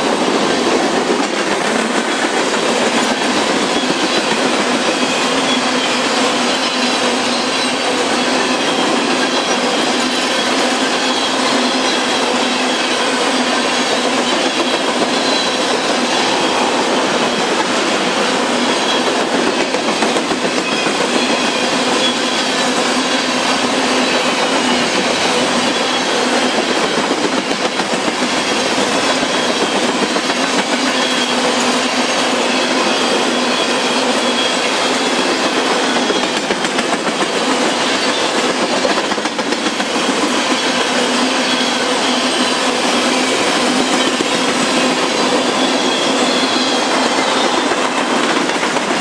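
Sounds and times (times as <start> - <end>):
train wheels rumbling on rails: 0.0 - 49.0
high wheel squeals: 2.6 - 49.0.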